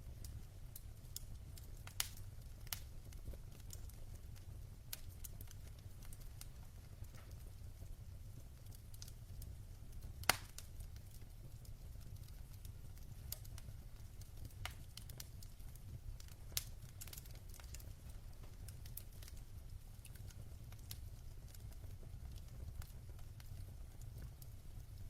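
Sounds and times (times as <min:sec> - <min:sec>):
logs crackling and popping: 0:00.0 - 0:25.0.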